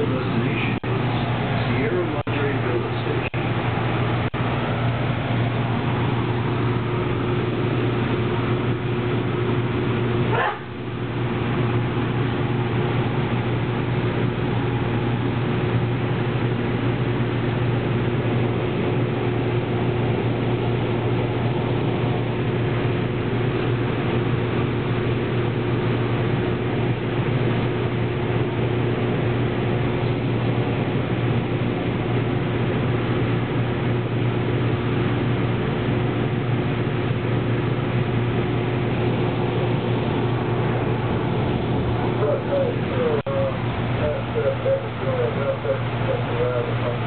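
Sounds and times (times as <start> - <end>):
light-rail car running noise: 0.0 - 47.0
steady whine: 0.0 - 47.0.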